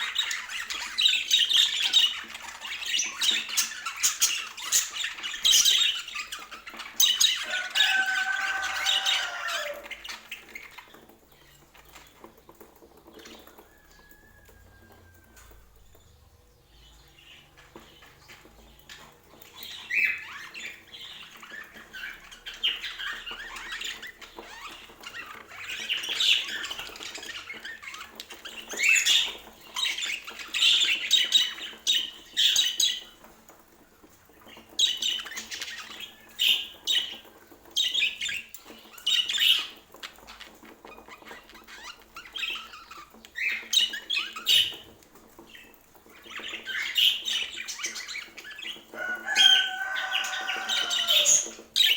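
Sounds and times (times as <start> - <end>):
budgerigars chattering and chirping: 0.0 - 16.0, 16.8 - 33.4, 34.3 - 51.9.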